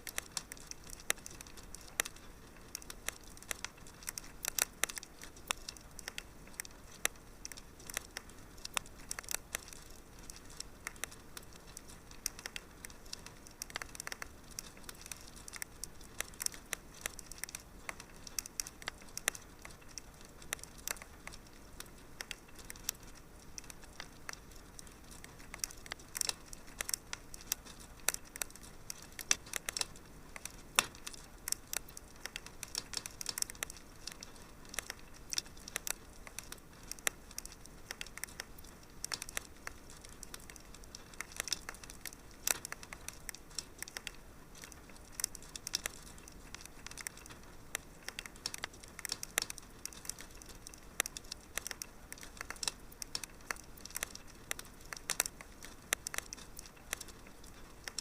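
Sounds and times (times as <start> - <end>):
faint steady hiss: 0.0 - 58.0
fire crackling in fireplace: 0.0 - 58.0.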